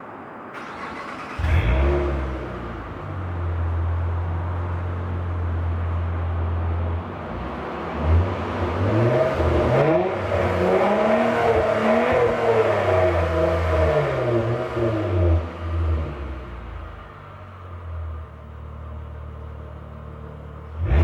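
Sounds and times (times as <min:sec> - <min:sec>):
car exhaust idling and revving: 0:01.4 - 0:21.0.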